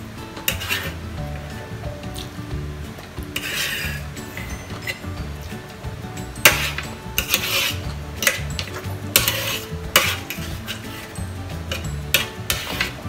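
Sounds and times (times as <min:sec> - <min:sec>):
background music: 0:00.0 - 0:13.0
utensils clinking on dishes: 0:00.3 - 0:01.0, 0:03.0 - 0:13.0.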